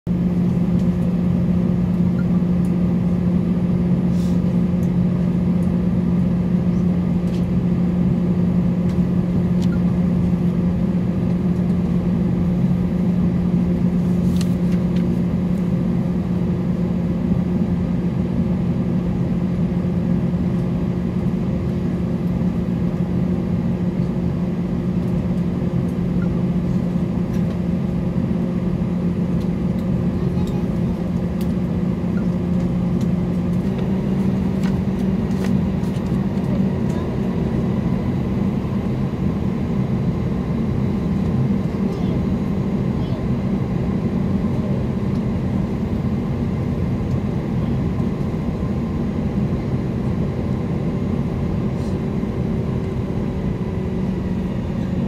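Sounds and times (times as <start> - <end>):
aircraft cabin hum: 0.1 - 55.0.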